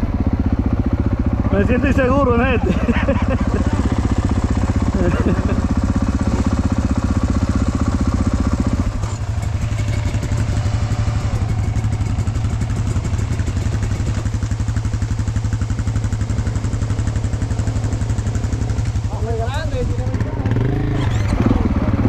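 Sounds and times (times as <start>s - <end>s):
dirt bike engine idling: 0.0s - 22.0s
other dirt bikes idling: 0.0s - 22.0s.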